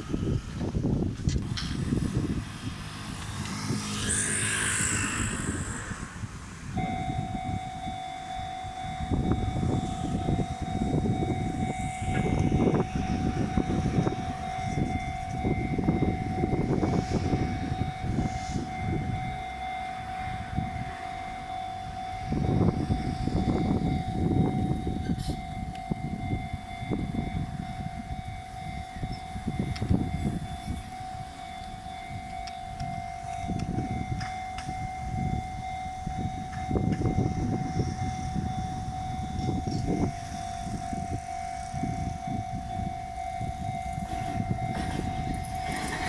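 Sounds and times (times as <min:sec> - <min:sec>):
train rumbling over rails: 0:00.0 - 0:46.0
level crossing warning alarm: 0:03.1 - 0:46.0.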